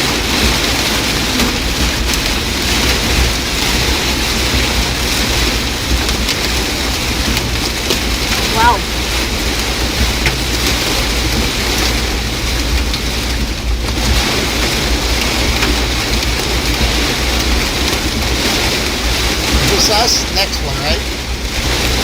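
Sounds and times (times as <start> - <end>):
heavy rain and hail on car roof: 0.0 - 22.0
low road rumble: 0.0 - 22.0.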